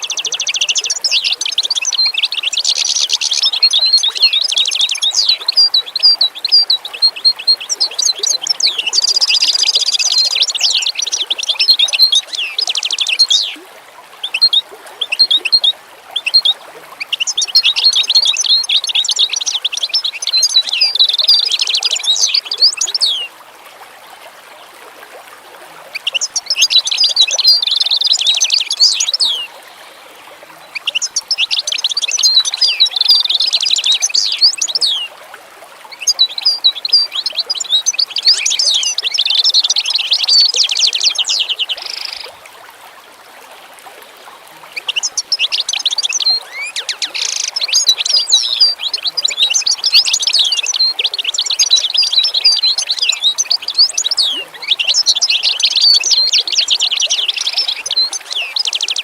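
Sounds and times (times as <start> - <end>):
songbird twittering: 0.0 - 13.6, 14.2 - 23.3, 26.0 - 29.6, 30.7 - 35.1, 35.9 - 42.3, 44.8 - 59.0.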